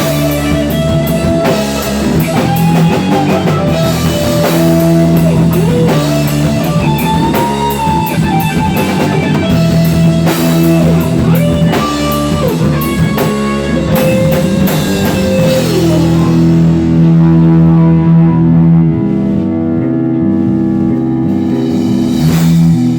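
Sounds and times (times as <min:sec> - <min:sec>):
drum kit beat on cymbals: 0:00.0 - 0:17.3, 0:20.4 - 0:22.9
electric lead guitar bending notes: 0:00.0 - 0:22.9.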